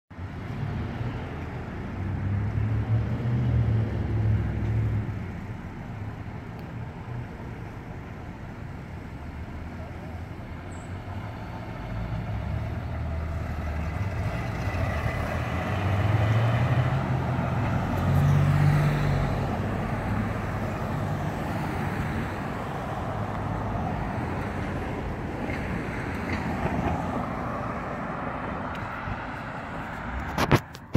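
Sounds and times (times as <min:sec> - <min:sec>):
passing cars and tyres hiss: 0:00.2 - 0:30.9.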